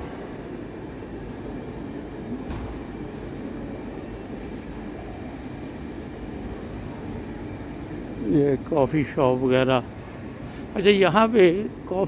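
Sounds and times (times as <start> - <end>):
low rumble of terminal noise: 0.0 - 12.0.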